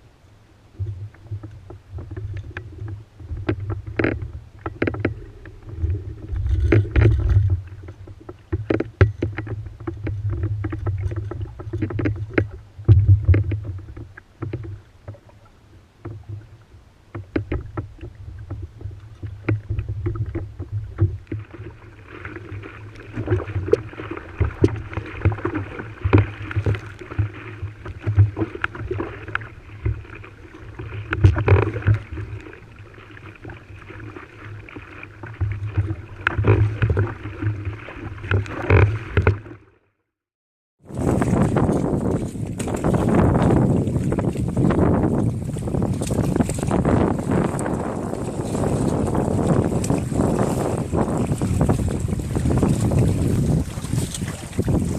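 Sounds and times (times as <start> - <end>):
rush of water: 0.0 - 39.6, 40.8 - 54.9
wind rumbling on microphone: 0.7 - 15.4, 16.0 - 39.5, 40.8 - 54.9
water splashing against hulls: 0.7 - 39.8, 40.8 - 54.9.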